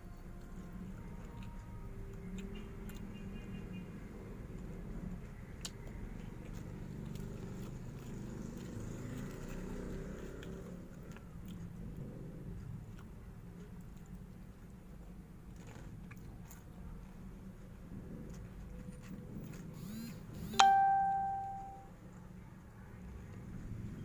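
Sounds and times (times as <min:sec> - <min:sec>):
crunchy chewing: 0:00.0 - 0:20.4.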